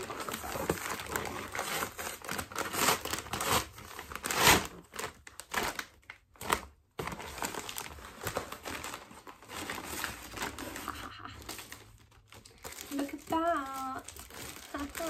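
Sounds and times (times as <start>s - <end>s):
paper tearing and crinkling: 0.0s - 15.0s.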